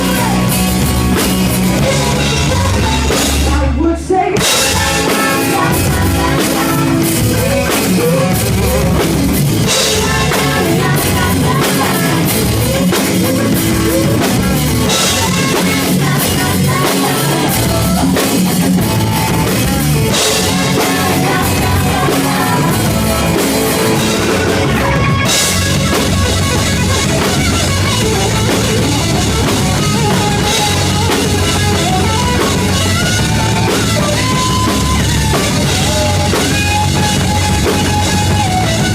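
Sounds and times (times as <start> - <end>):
drum kit: 0.0 - 38.9
electric guitar: 0.0 - 38.9
live rock band playing: 0.0 - 38.9.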